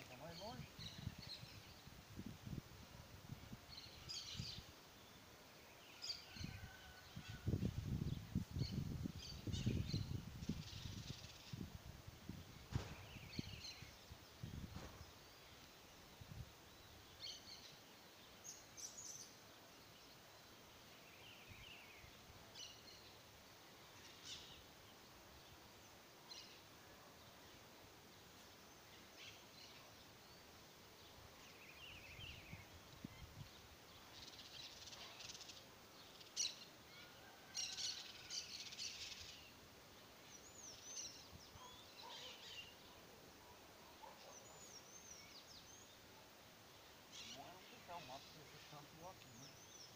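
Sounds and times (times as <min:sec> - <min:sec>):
faint birds chirping: 0:00.0 - 0:49.9.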